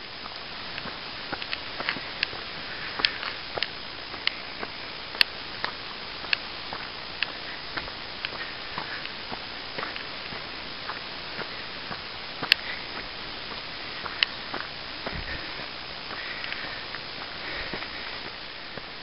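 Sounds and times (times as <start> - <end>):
footsteps on dirt trail: 0.0 - 19.0
steady hiss: 0.0 - 19.0.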